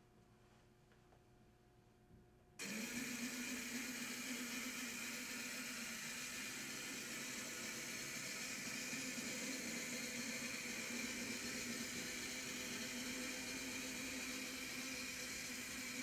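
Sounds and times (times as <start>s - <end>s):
model locomotive motor whirring: 2.6s - 16.0s.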